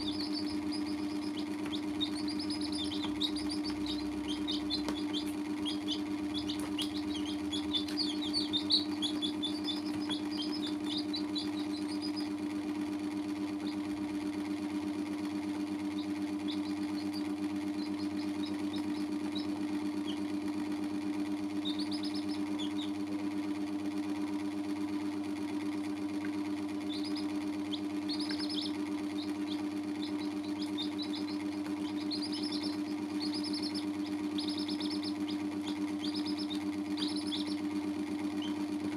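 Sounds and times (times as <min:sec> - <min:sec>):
chicks peeping: 0:00.0 - 0:12.4, 0:13.4 - 0:14.0, 0:14.8 - 0:23.8, 0:25.8 - 0:38.9
steady low hum: 0:00.0 - 0:38.9.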